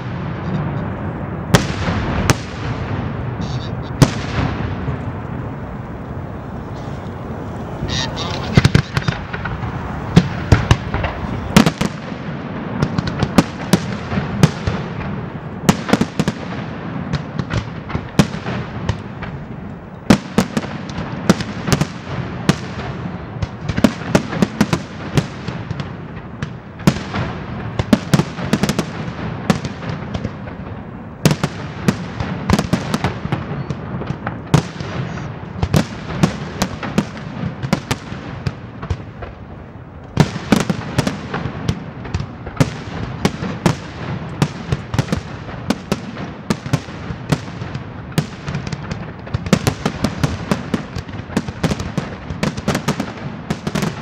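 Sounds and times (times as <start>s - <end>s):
firework shells bursting: 0.0s - 54.0s
fireworks rumble and crackle: 0.0s - 54.0s.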